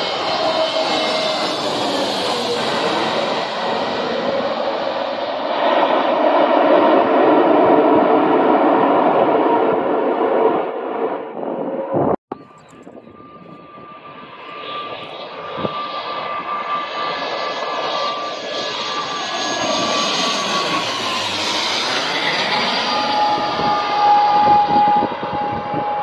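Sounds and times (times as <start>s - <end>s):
airplane engine and propeller drone: 0.0s - 26.0s
steady engine whine: 0.0s - 26.0s.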